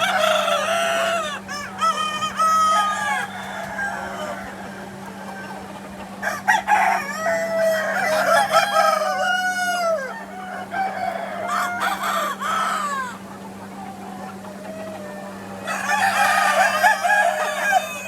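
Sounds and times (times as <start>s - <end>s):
roosters crowing: 0.0s - 18.0s.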